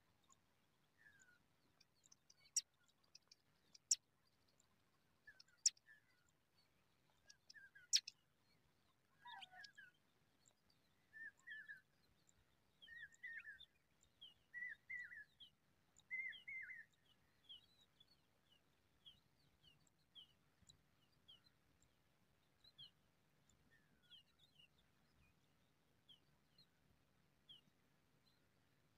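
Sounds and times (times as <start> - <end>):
bird chirping: 0.2 - 26.8.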